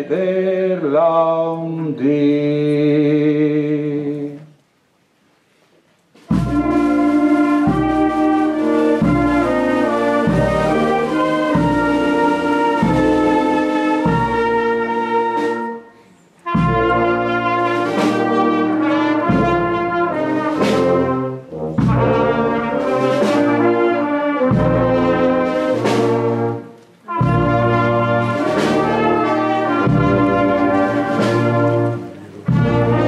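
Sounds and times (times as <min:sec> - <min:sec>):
marching brass band playing: 0:06.2 - 0:33.0.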